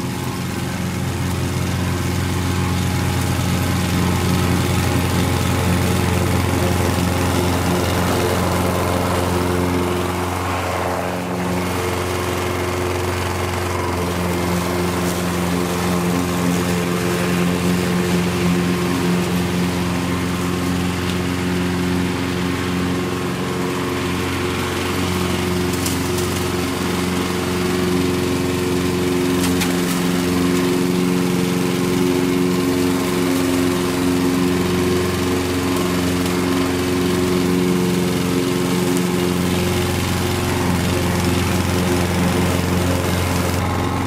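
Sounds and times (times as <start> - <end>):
lawn mower engine mowing grass: 0.0 - 44.0.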